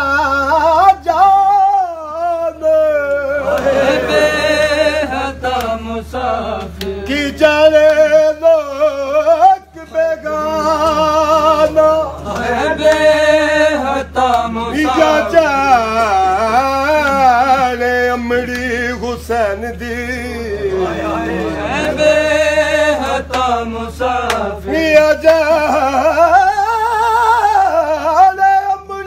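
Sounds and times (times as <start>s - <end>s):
man chanting a lament: 0.0s - 29.0s.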